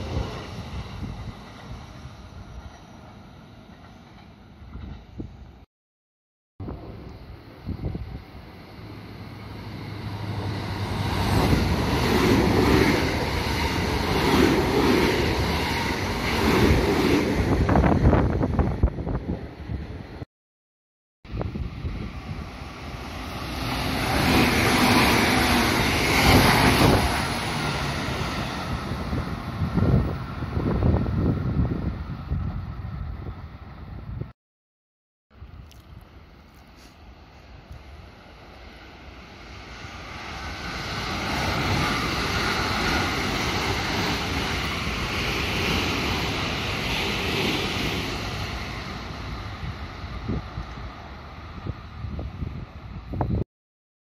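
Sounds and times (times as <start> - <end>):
electric train passing: 0.0 - 5.6, 6.6 - 20.2, 21.3 - 34.1, 37.0 - 53.4.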